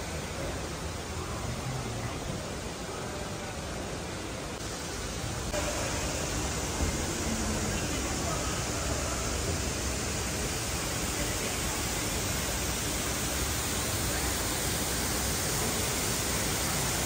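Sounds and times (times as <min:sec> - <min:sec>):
faint voices: 0:00.0 - 0:17.0
waterfall pouring into pool: 0:00.0 - 0:17.0.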